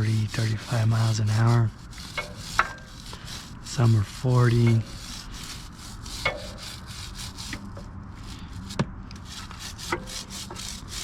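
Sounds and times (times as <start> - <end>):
brush scrubbing a chain: 0.0 - 11.0.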